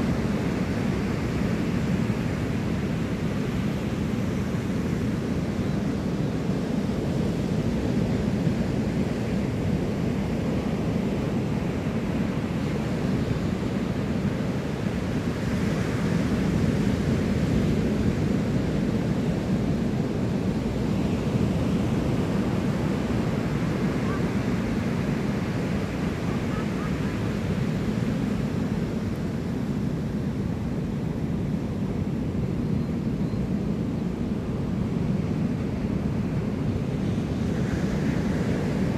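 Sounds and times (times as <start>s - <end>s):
ocean surf breaking on sand: 0.0s - 32.2s, 34.0s - 38.9s.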